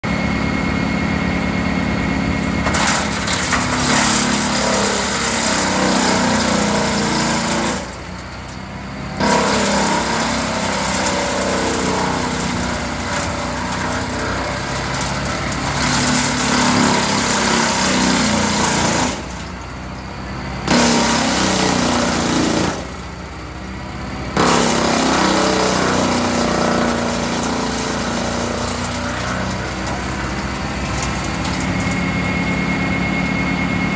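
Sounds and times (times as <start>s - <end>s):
wood chipper running: 0.0s - 33.9s.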